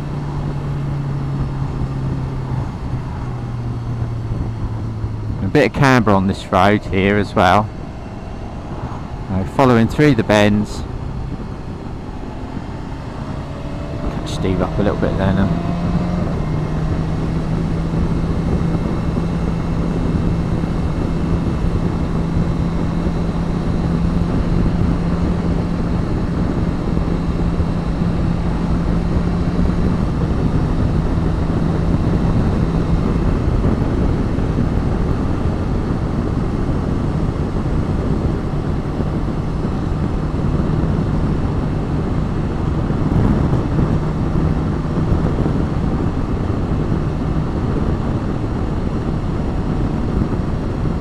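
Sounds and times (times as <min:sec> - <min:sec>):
motorcycle engine hum: 0:00.0 - 0:51.0
wind and road noise: 0:00.0 - 0:51.0.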